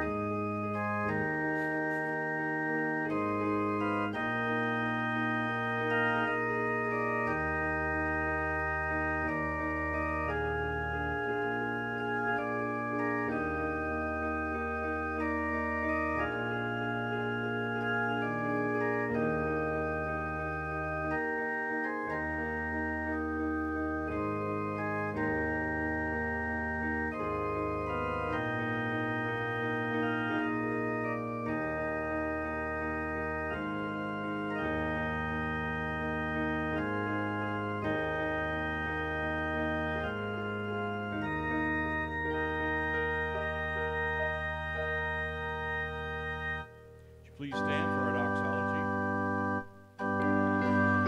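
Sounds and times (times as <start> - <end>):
organ playing sustained chords: 0.0 - 51.0.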